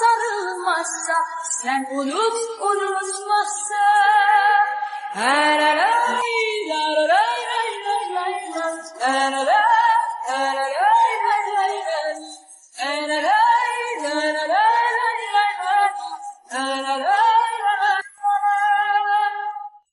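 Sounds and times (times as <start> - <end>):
woman singing: 0.0 - 19.9.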